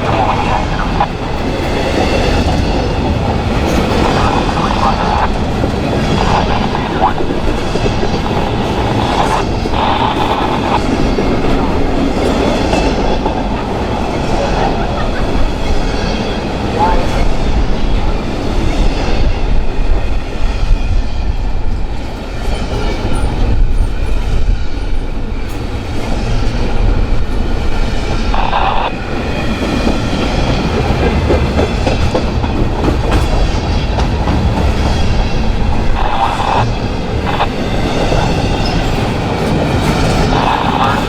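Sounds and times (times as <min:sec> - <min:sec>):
train wheels clattering over rails: 0:00.0 - 0:20.8, 0:21.7 - 0:41.0.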